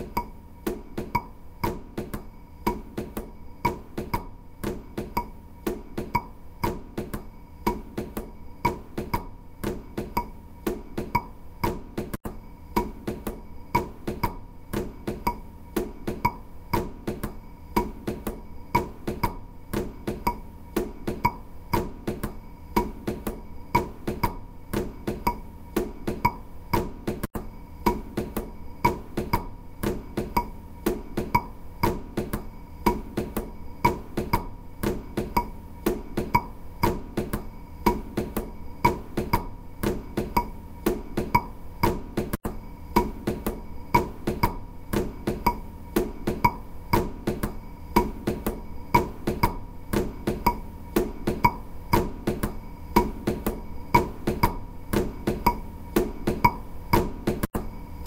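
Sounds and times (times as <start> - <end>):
instrumental music with ticking beat: 0.0 - 58.0.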